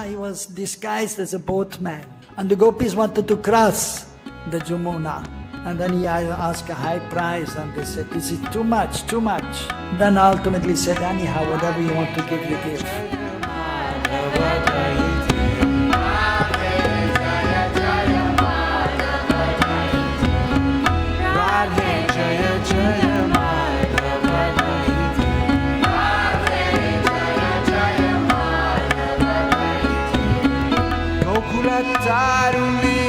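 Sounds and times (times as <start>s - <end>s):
devotional music: 2.2s - 33.0s
tabla drumming: 3.7s - 33.0s.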